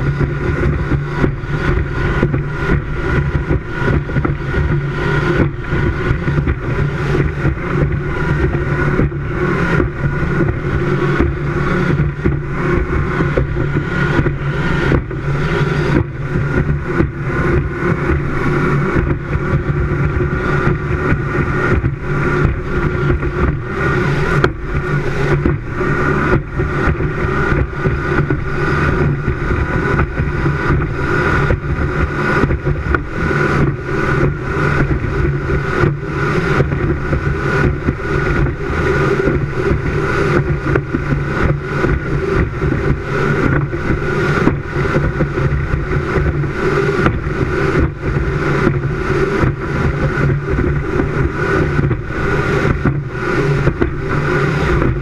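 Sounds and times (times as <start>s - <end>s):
hull slapping water: 0.0s - 55.0s
powerboat engines droning: 0.0s - 55.0s
rushing wind: 0.0s - 55.0s.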